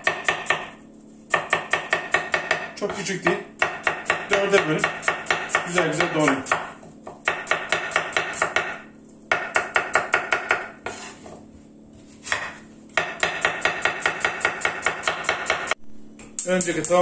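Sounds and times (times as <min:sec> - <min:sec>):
knife chopping on wooden board: 0:00.0 - 0:11.4, 0:12.0 - 0:15.8.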